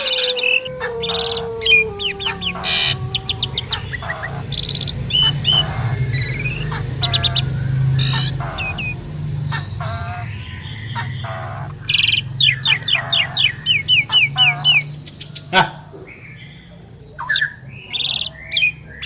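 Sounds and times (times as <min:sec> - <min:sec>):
starlings whistling and chattering: 0:00.0 - 0:19.0.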